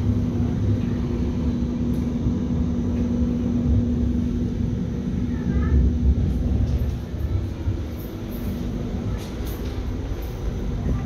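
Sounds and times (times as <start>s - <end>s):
steady hum: 0.0s - 11.0s
train low rumble: 0.0s - 11.0s.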